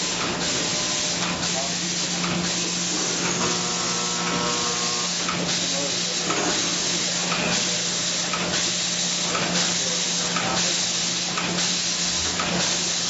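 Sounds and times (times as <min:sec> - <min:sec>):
factory machinery hiss and hum: 0:00.0 - 0:13.0.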